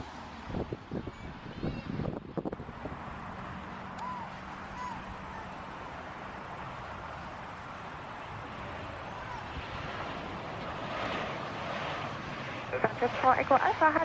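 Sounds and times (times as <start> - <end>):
distant jet engine noise: 0.0 - 14.0.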